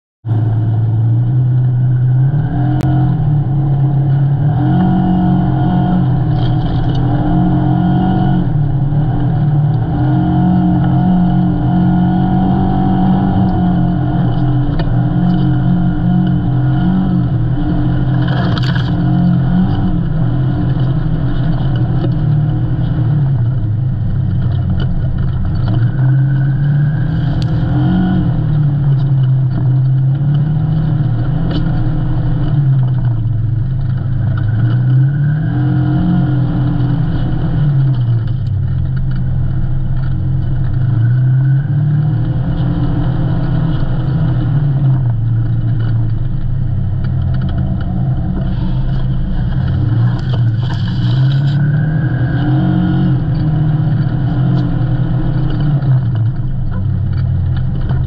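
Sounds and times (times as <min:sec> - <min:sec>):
vehicle engine running: 0:00.2 - 0:58.0.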